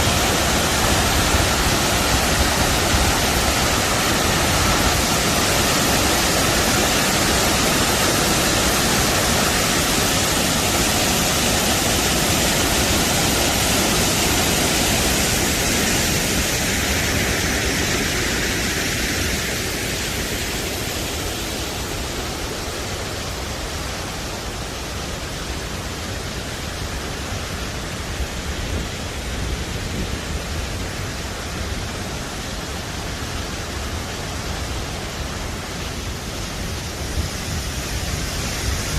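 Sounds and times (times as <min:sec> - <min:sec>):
waterfall rushing water: 0:00.0 - 0:38.9.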